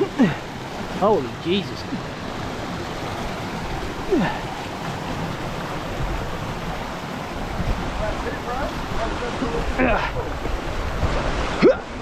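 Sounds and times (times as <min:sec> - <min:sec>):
water rushing in creek and waterfall: 0:00.0 - 0:12.0.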